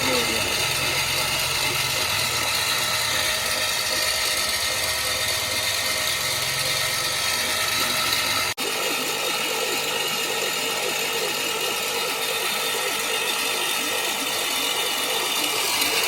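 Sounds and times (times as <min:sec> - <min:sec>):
concrete mixer whirring and rattling: 0:00.0 - 0:16.0.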